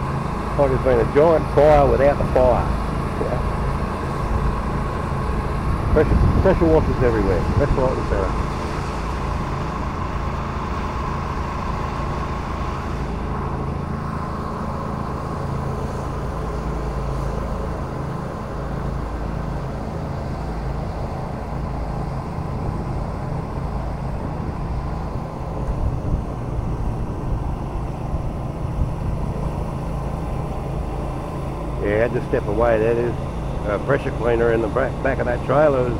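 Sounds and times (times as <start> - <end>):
high whine: 0.0 - 35.9
pressure cleaner engine droning: 0.0 - 35.9.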